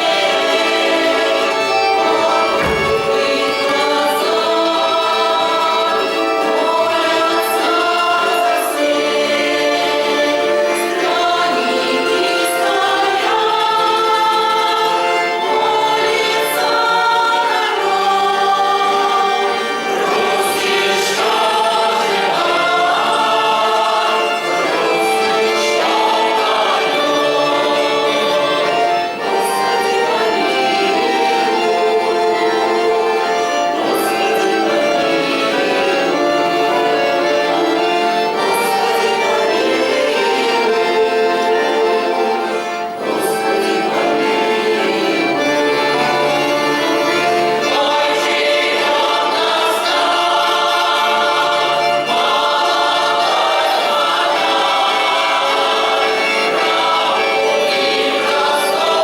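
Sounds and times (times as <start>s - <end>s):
folk choir singing: 0.0s - 59.0s.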